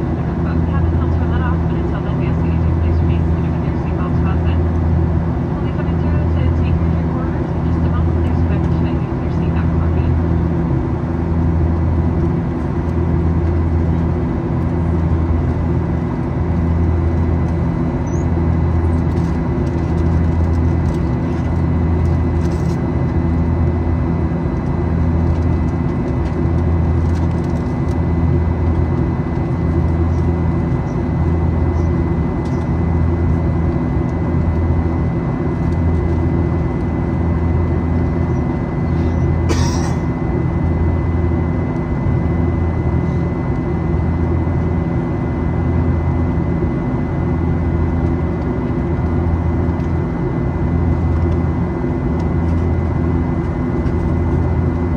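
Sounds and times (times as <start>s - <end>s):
jet engines droning in cabin: 0.0s - 54.9s.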